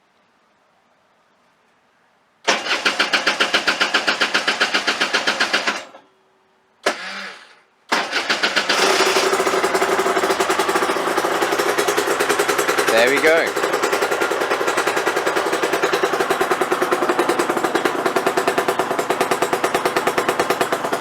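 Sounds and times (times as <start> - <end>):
two-stroke engine starting and running: 2.5 - 6.0, 6.8 - 21.0.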